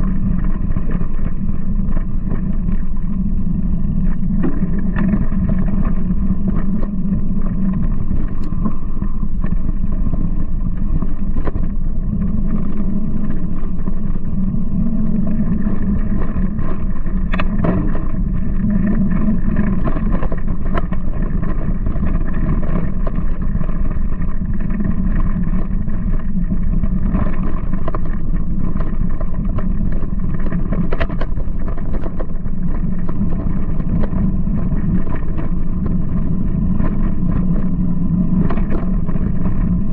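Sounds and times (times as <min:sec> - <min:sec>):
bike frame vibration: 0:00.0 - 0:39.9
bike tyres rumbling on dirt: 0:00.0 - 0:39.9
wind on microphone: 0:00.0 - 0:39.9.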